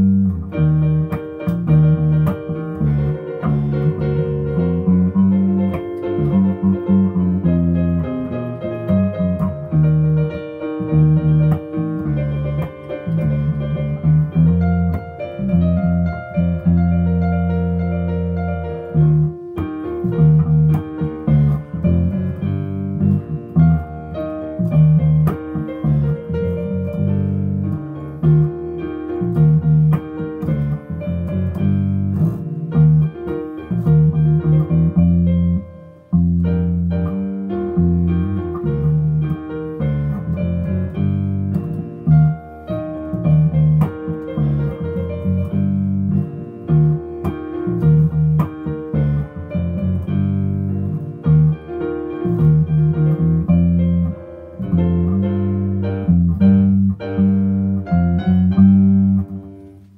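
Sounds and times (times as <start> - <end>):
electric bass guitar: 0.0 - 59.9
piano chords and melody: 0.0 - 59.9.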